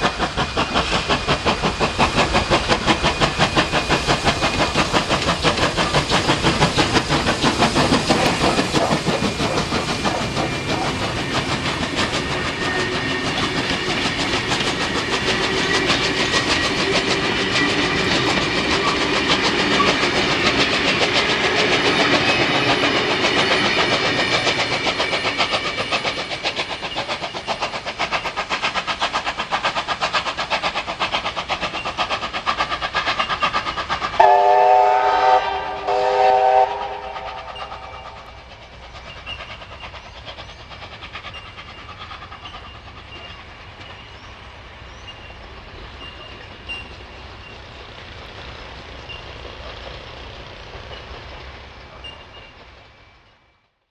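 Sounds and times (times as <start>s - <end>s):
steam locomotive exhaust beating: 0.0s - 53.7s.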